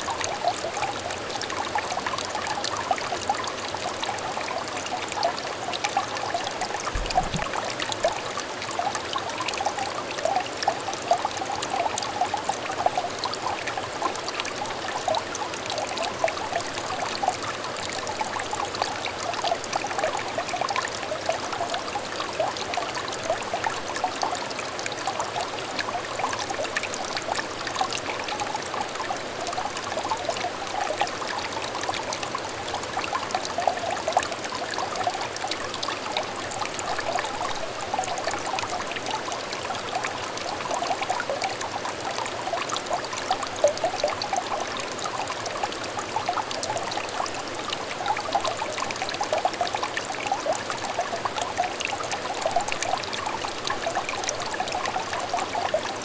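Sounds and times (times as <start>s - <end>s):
small brook trickling: 0.0s - 56.0s.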